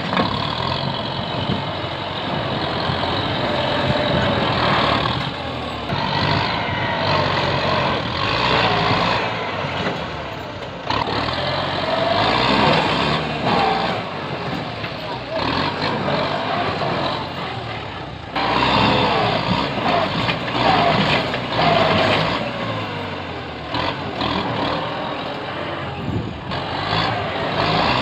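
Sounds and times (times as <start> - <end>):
tractor diesel engine working hard: 0.0 - 28.0.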